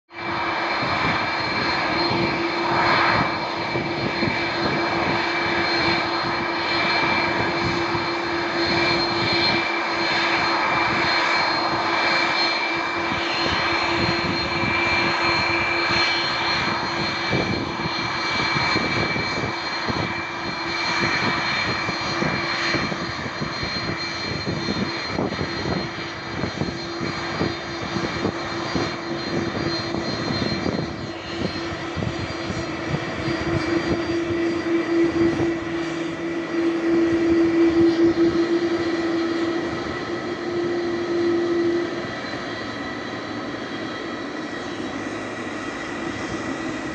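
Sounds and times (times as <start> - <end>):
jet engines running: 0.1 - 46.9.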